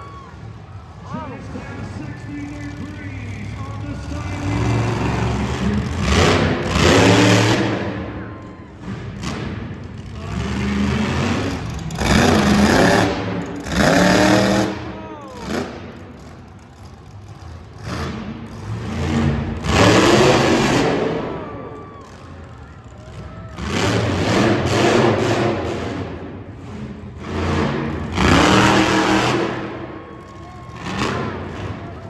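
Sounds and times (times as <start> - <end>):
monster truck engine revving: 0.0 - 32.0.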